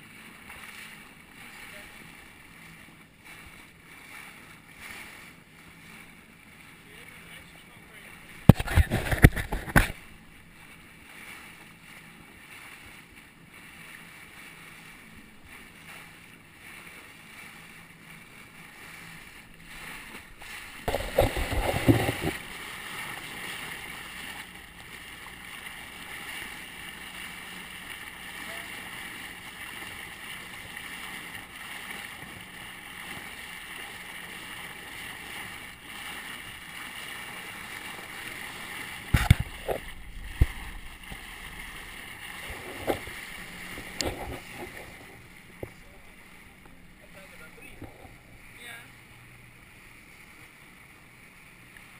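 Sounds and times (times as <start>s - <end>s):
water rushing and splashing: 0.0s - 51.9s.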